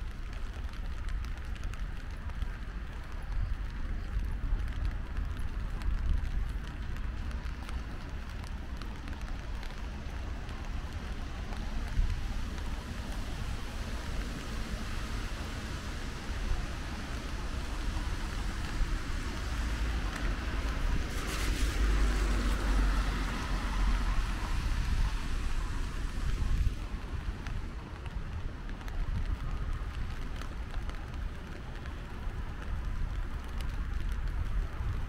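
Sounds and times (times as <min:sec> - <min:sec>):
constant low rumble: 0:00.0 - 0:35.0
steady rain: 0:00.0 - 0:35.0.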